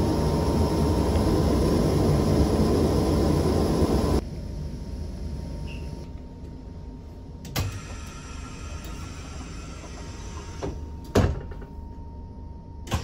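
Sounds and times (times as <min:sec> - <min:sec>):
train low hum: 0:00.0 - 0:12.8.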